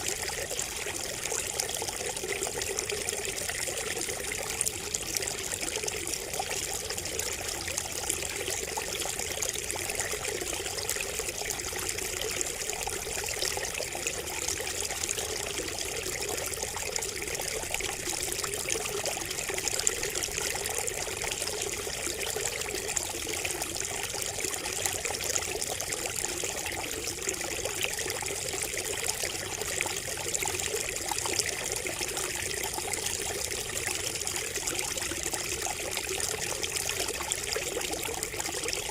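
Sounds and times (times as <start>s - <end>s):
water trickling from spout: 0.0s - 38.9s.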